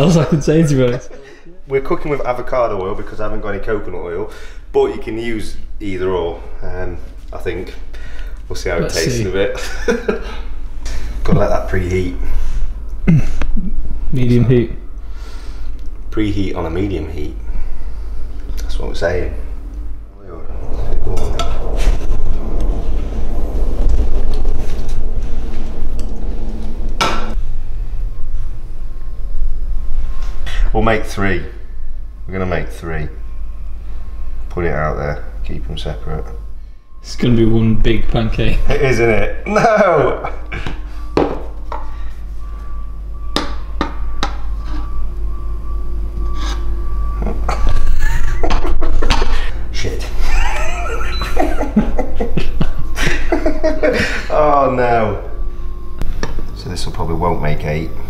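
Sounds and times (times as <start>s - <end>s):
steady low rumble: 0.0s - 39.5s, 40.1s - 58.0s.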